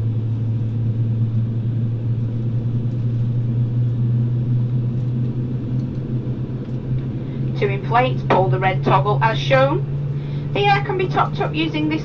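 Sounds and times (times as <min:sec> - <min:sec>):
aircraft cabin drone: 0:00.0 - 0:12.0.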